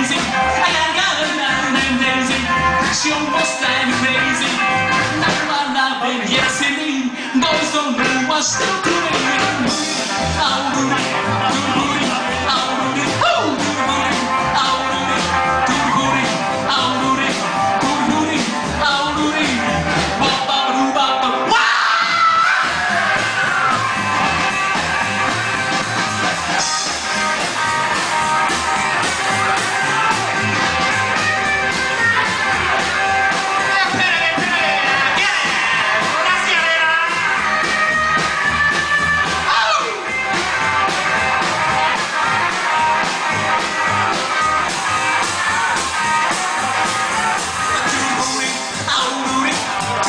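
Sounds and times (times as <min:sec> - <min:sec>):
rock and roll band playing: 0:00.0 - 0:50.0.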